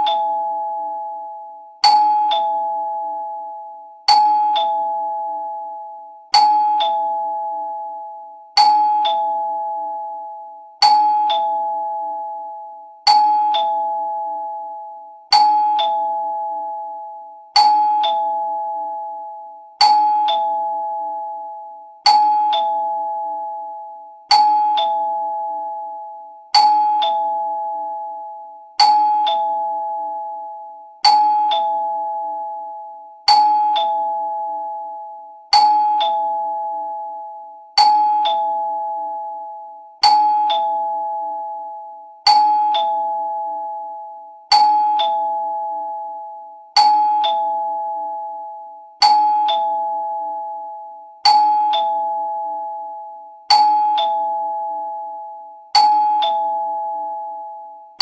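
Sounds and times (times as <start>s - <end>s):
two-tone doorbell chime: 0.0s - 58.0s.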